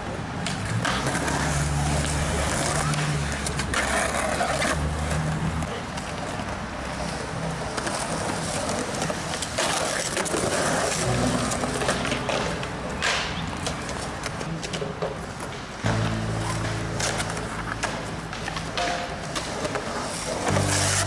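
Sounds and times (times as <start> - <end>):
skateboard clacking: 0.0 - 21.0
skateboard wheels rolling on concrete: 0.0 - 21.0.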